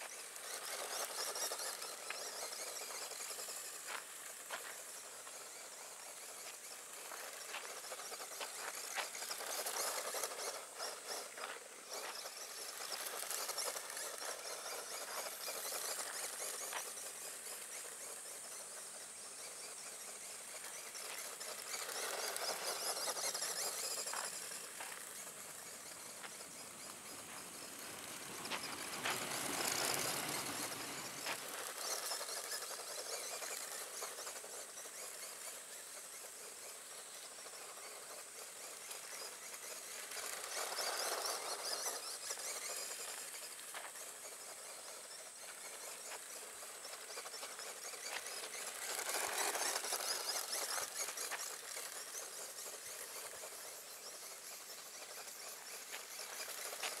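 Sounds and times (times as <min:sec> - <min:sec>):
electric motor and gears whining: 0:00.0 - 0:57.0
tyres hissing over gravel: 0:00.0 - 0:57.0.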